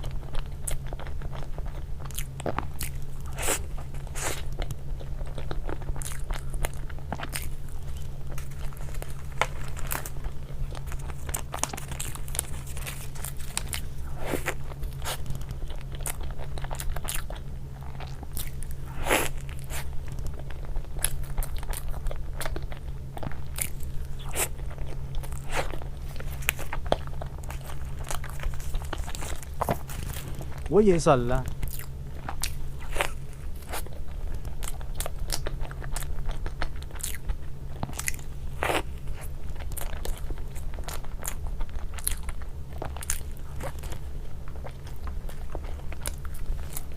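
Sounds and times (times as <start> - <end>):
crunching and chewing crisp food: 0.0 - 46.9
steady low hum: 0.0 - 46.9.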